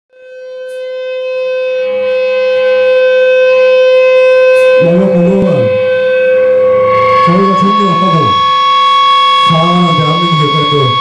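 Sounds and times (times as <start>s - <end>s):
distorted electric guitar note: 0.1s - 11.0s
lower sliding tone: 0.2s - 11.0s.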